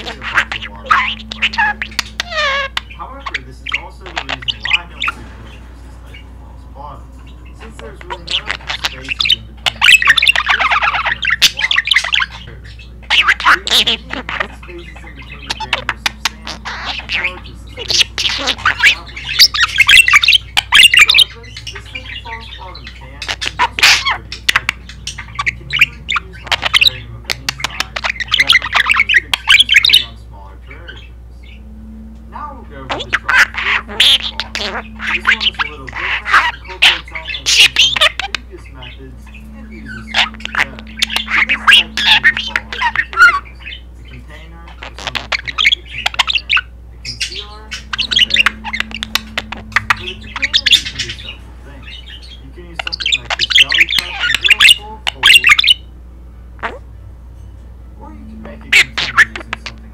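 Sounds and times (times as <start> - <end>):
budgerigar chattering: 0.0 - 56.0, 56.6 - 57.0, 58.0 - 59.9.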